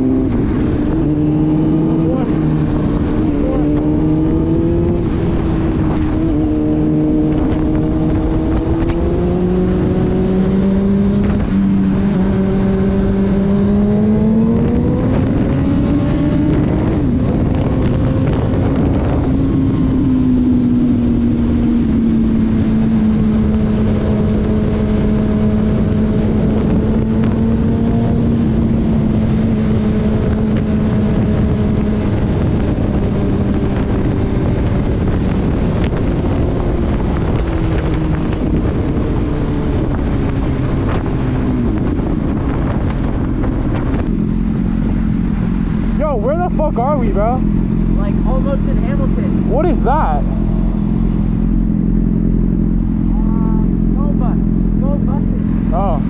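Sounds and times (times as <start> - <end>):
car engine hum: 0.0 - 56.0
road and wind noise: 0.0 - 56.0.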